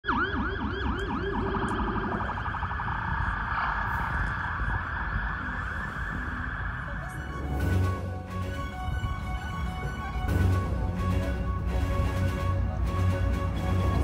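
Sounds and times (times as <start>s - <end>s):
emergency vehicle siren: 0.0s - 14.0s.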